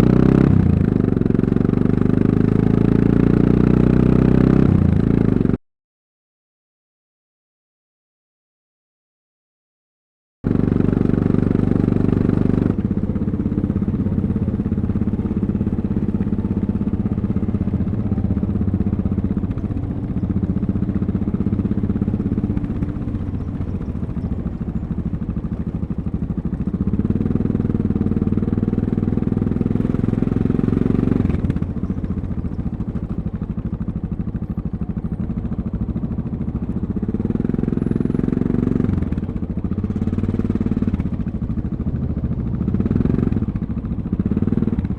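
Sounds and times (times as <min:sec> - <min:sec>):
motorcycle engine running: 0:00.0 - 0:05.6, 0:10.5 - 0:44.9.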